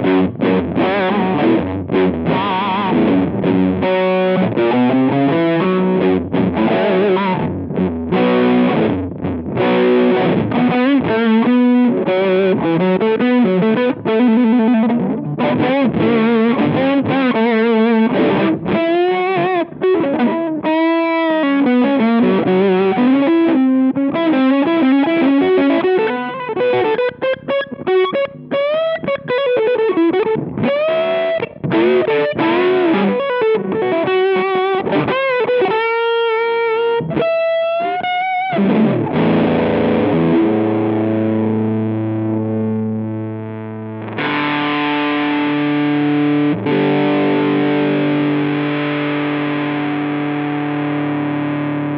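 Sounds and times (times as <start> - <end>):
distorted electric guitar riffs: 0.0 - 51.9.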